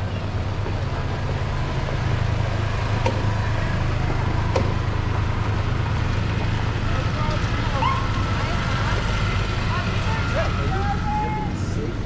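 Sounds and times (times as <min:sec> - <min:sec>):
utility vehicle engines droning: 0:00.0 - 0:12.0.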